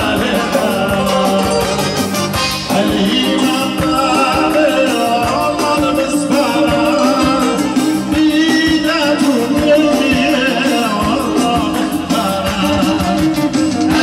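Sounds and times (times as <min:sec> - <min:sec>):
acoustic guitar: 0:00.0 - 0:14.0
keyboard: 0:00.0 - 0:14.0
man singing into microphone: 0:00.0 - 0:14.0.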